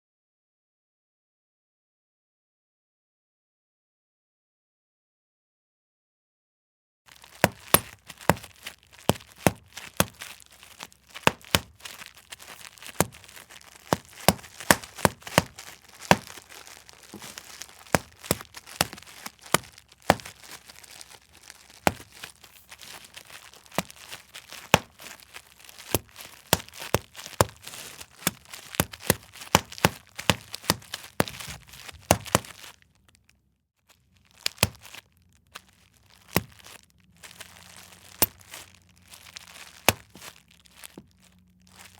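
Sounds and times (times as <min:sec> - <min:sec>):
plastic crinkling: 0:07.1 - 0:33.3, 0:33.9 - 0:41.9
bubble wrap popping: 0:07.1 - 0:41.9.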